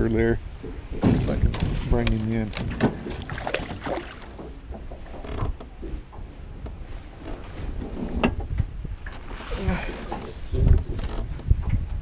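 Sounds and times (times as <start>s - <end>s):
boat and tackle creaking: 0.0s - 12.0s
wind rumble on microphone: 0.0s - 12.0s.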